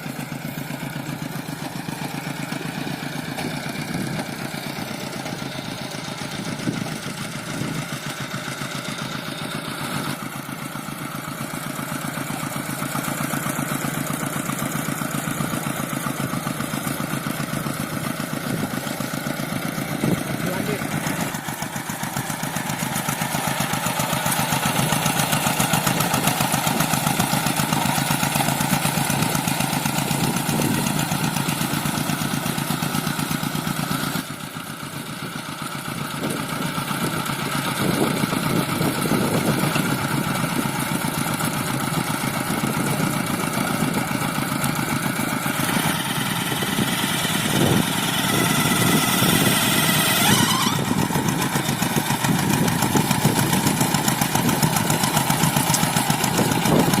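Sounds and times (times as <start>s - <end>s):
diesel hand tractor engine running: 0.0s - 57.0s.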